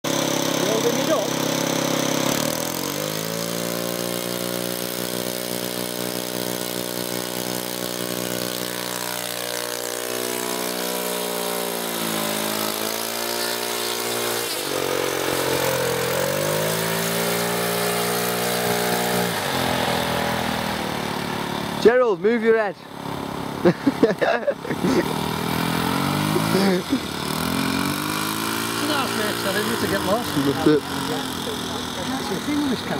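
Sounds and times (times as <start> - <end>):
model airplane engine idling: 0.0 - 32.9.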